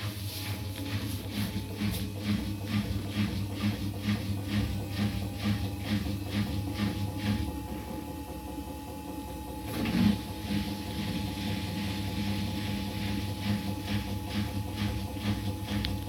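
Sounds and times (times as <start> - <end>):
washing machine whine: 0.0 - 16.0.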